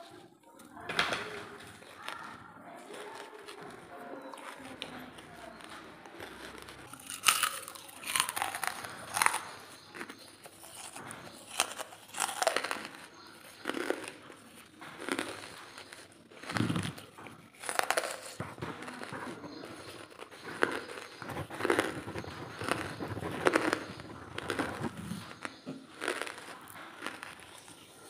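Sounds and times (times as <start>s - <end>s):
crunching dry charcoal: 0.0s - 28.0s.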